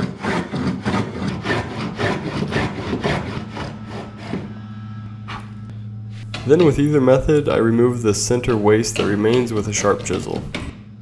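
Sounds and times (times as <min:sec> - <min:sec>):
plane blade scraping wood: 0:00.0 - 0:07.6, 0:08.2 - 0:10.7
steady low hum: 0:00.2 - 0:11.0.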